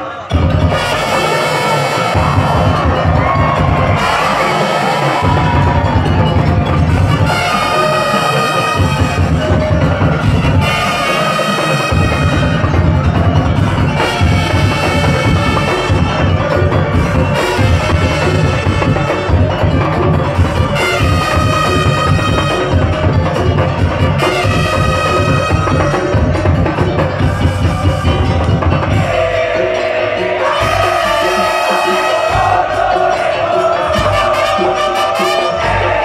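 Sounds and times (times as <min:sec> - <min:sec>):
percussion ensemble driving rhythm: 0:00.0 - 0:36.0.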